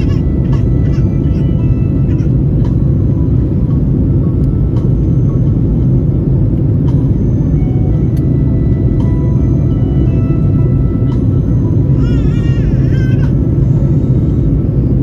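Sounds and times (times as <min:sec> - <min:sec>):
jet engines rumbling on takeoff: 0:00.0 - 0:15.0.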